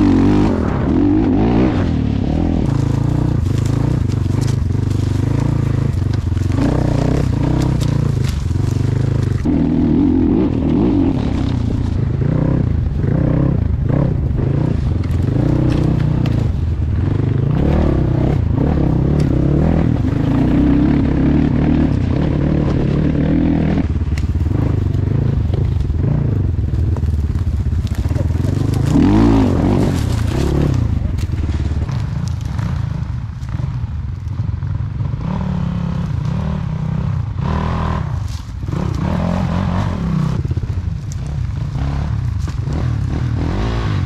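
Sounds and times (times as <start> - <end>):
off-road vehicle engine revving: 0.0 - 33.8, 34.8 - 44.0.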